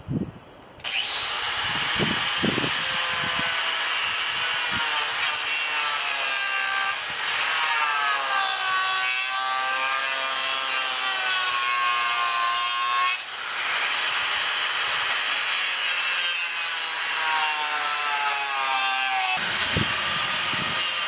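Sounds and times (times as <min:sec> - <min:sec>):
power tool motor whine: 0:00.8 - 0:21.0.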